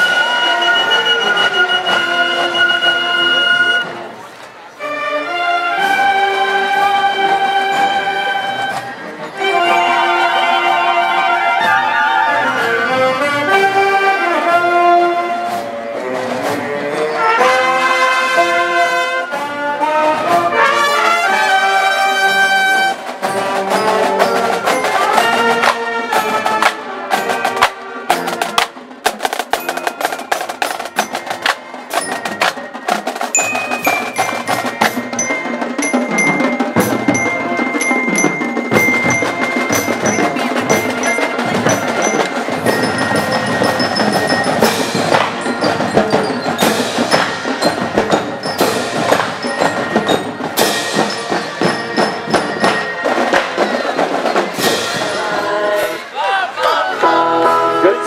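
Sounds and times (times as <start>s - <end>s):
brass playing a tune: 0.0s - 4.1s, 4.8s - 49.6s, 54.2s - 58.0s
marching drums: 5.3s - 56.8s.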